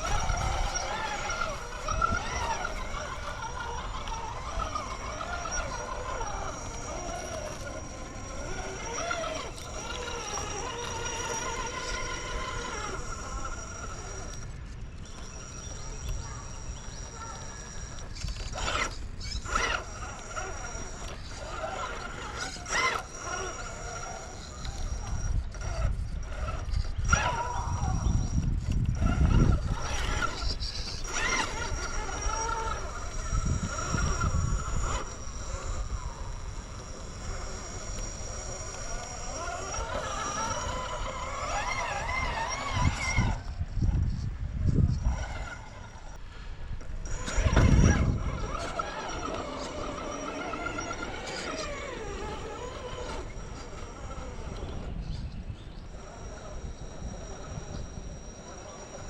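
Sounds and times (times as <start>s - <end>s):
electric motor and gears whining: 0.0s - 59.0s.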